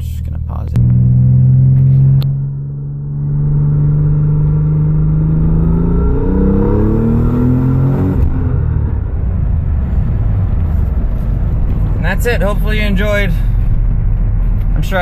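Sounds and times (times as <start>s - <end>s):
car engine accelerating: 0.7s - 14.9s.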